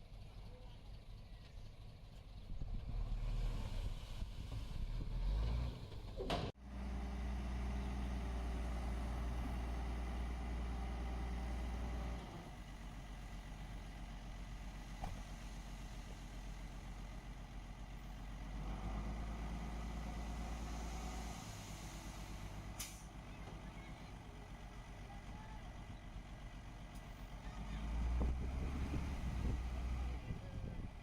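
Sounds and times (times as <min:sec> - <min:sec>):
heavy machinery diesel engine: 0:00.0 - 0:31.0.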